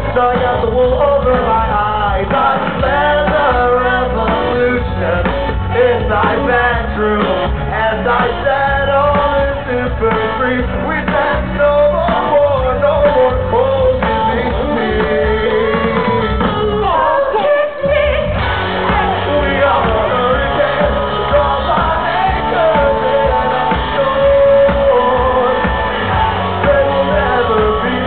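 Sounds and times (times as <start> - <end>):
lead singer singing: 0.0 - 28.0
live rock band playing: 0.0 - 28.0.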